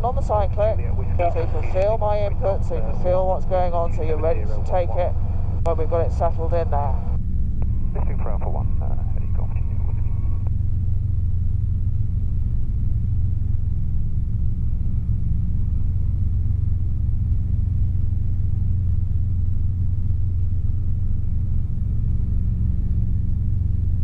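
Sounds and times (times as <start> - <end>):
helicopter engine and rotors droning: 0.0 - 24.0.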